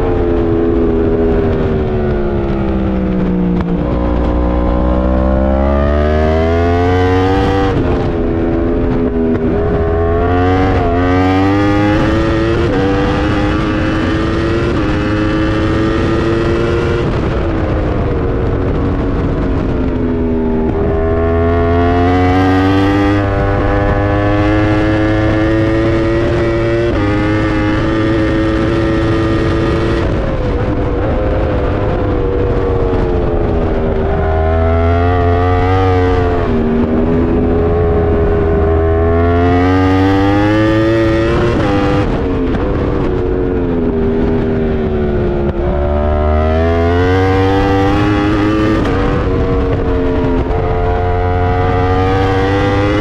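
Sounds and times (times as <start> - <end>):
motorcycle engine at full throttle: 0.0 - 53.0
wind rush: 0.0 - 53.0.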